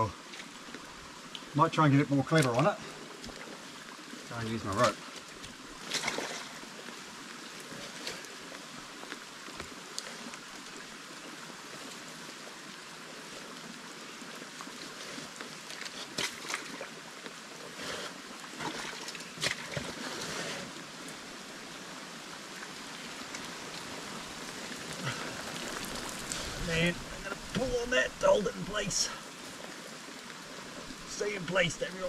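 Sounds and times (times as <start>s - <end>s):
running water and rain hiss: 0.0s - 32.0s.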